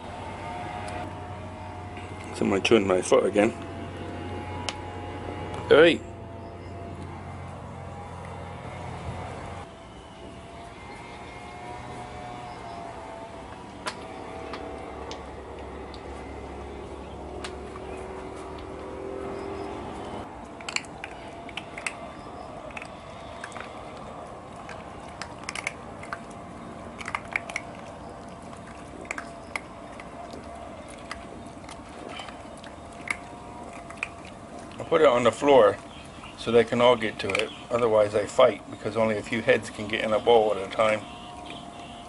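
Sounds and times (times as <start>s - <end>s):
puppies crunching dry kibble: 0.0s - 8.8s, 10.2s - 42.0s
low hum: 0.0s - 42.0s.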